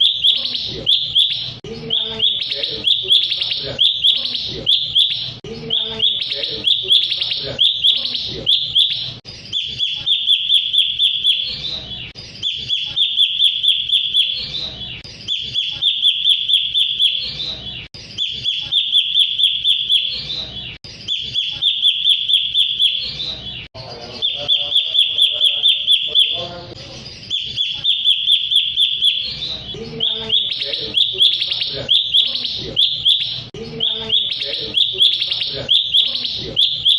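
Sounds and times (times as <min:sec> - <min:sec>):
bird song chattering: 0:00.0 - 0:36.9.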